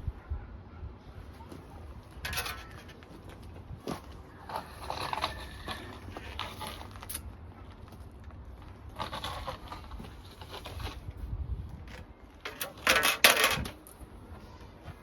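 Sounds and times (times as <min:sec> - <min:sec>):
hard material scraping and clattering: 0:01.4 - 0:15.0.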